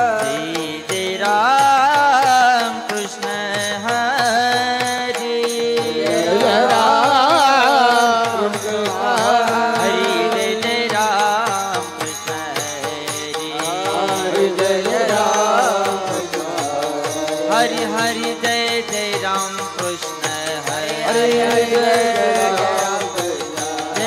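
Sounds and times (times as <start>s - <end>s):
even drum beat: 0.0s - 24.0s
person singing ornamented melody: 0.0s - 24.0s.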